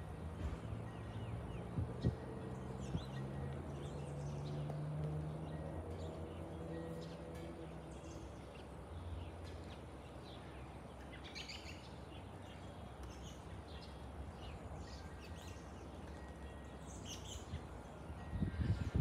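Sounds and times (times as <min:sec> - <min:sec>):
small birds chirping: 0:00.6 - 0:18.8.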